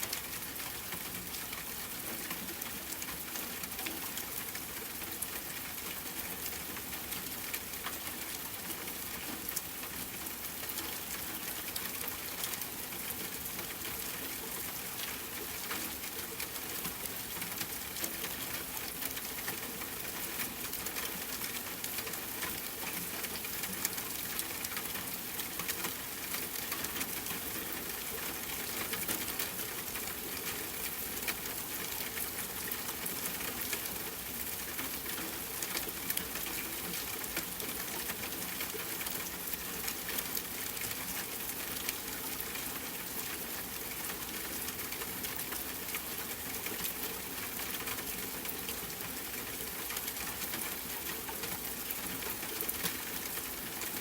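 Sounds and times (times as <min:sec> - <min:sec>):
rain pattering on a tent: 0:00.0 - 0:54.0.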